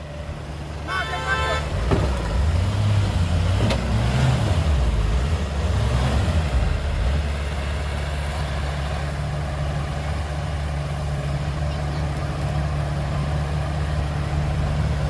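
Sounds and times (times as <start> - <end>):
heavy diesel engine: 0.0 - 15.0.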